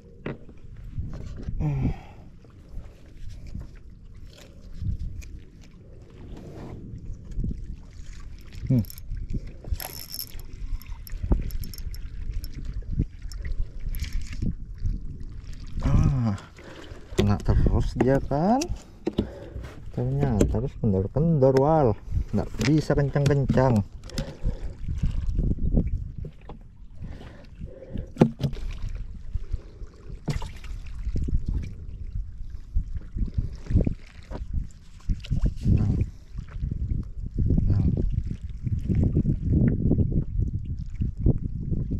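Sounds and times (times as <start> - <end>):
low rumble of wind: 0.0 - 41.9
water splashing against hull: 0.0 - 41.9.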